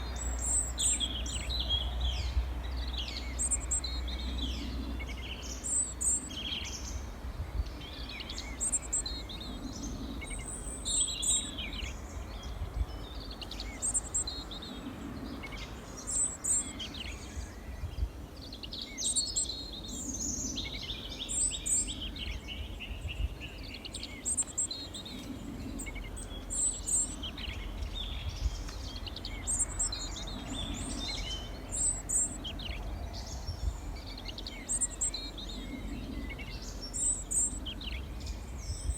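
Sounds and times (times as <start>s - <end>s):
songbirds chirping and singing: 0.0s - 38.9s
steady low rumble: 0.0s - 38.9s.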